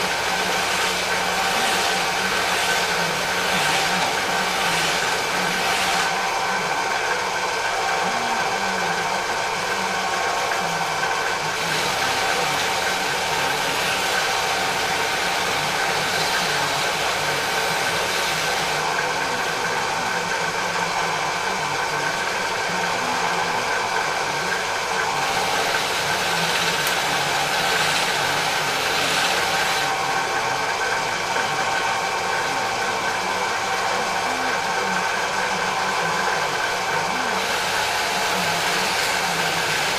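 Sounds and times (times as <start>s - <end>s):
drill press motor whine: 0.0s - 39.9s.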